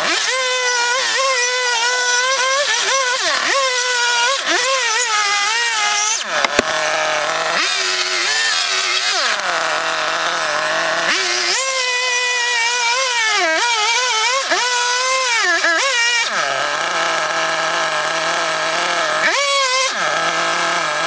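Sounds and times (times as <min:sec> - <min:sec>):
chainsaw cutting log: 0:00.0 - 0:21.0.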